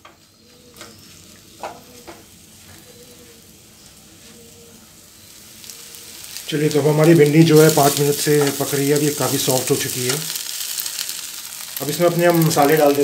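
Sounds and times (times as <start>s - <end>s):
vegetables sizzling in oil: 0.2s - 13.0s.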